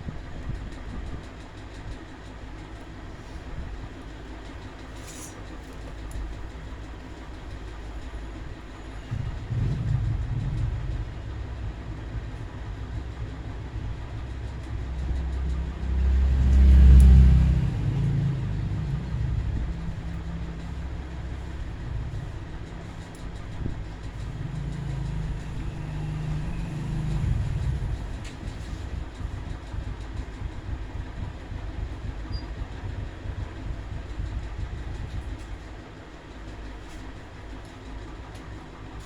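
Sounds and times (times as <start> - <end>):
low mechanical rumble: 0.0 - 39.0.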